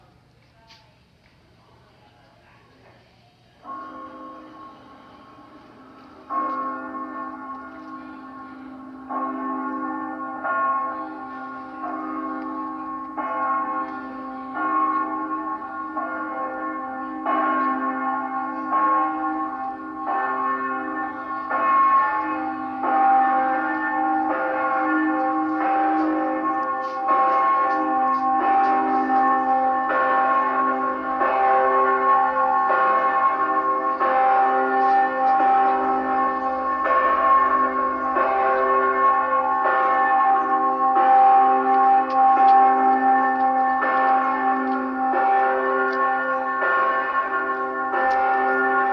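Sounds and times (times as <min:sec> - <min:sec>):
church bells ringing: 0:03.6 - 0:48.9.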